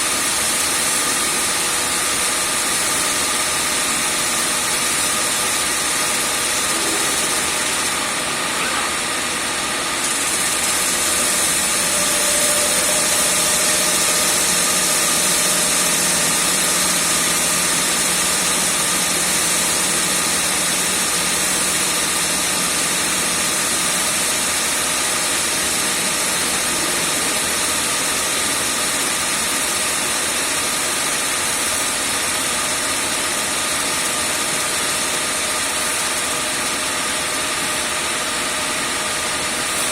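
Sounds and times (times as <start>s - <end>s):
grinder running: 0.0s - 39.9s.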